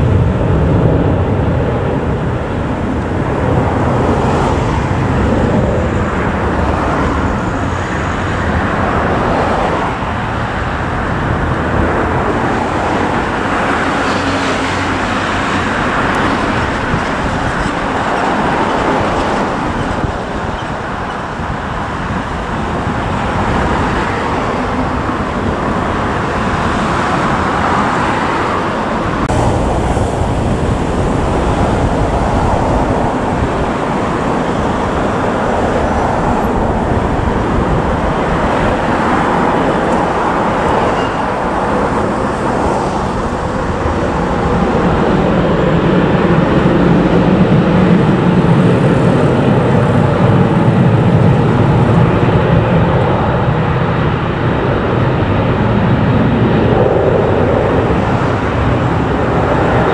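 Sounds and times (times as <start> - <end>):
jet airliner taking off: 0.0 - 59.9
jet engines rumbling on runway: 0.0 - 59.9.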